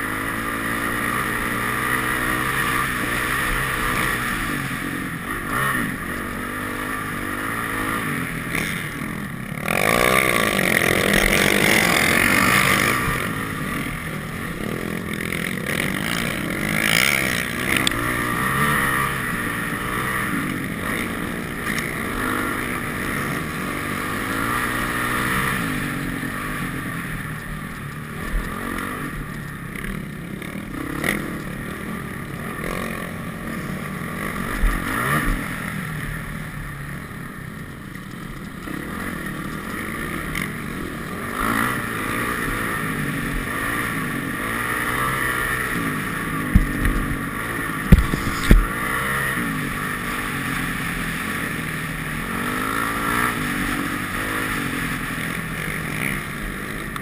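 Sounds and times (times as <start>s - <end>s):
dirt bike engine running hard: 0.0s - 57.0s.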